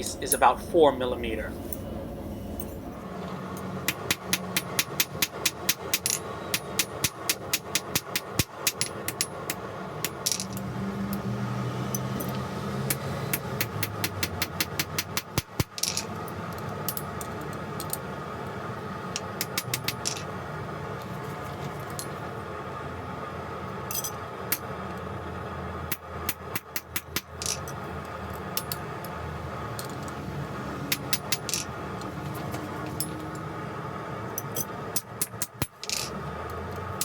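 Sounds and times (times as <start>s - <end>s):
shop equipment drone: 0.0s - 37.0s.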